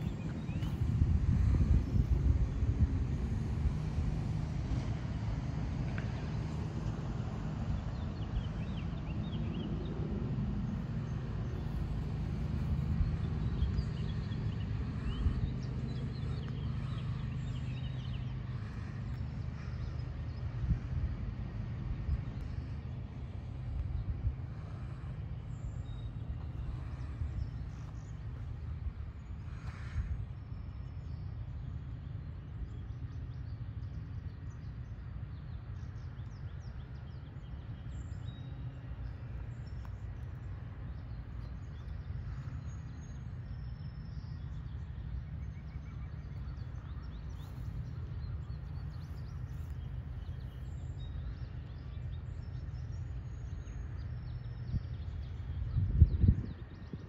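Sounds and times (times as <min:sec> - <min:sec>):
birds chirping: 0:07.8 - 0:57.0.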